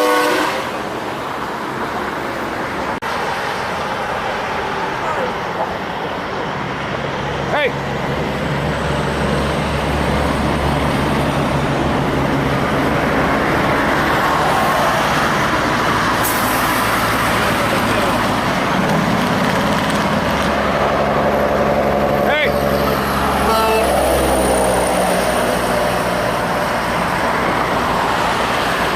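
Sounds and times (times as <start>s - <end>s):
diesel truck engines in traffic: 0.0s - 28.9s.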